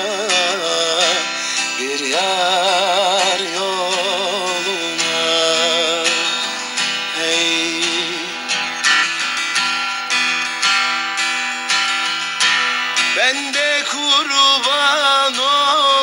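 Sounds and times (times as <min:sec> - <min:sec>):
person singing: 0:00.0 - 0:09.9, 0:10.9 - 0:16.0
plucked string instruments strumming: 0:00.0 - 0:16.0.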